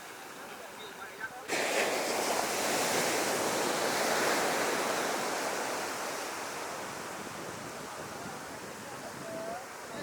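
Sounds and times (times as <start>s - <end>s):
waves breaking on a beach: 0.0s - 10.0s.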